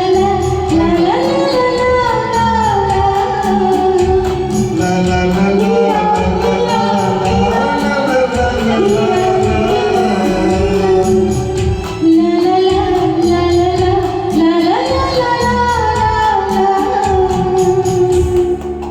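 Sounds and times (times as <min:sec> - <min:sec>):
film song with melody and beat: 0:00.0 - 0:18.9.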